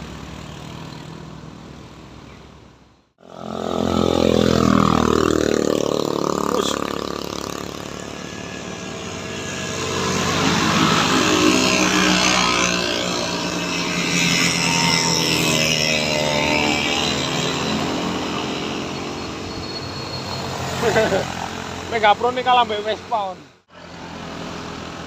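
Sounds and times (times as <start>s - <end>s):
vehicle engines climbing: 0.0s - 25.0s.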